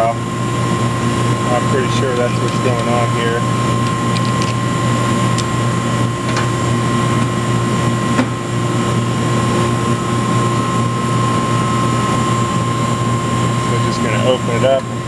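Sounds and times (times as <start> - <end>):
compressor low hum: 0.0 - 15.0
fan rushing air: 0.0 - 15.0.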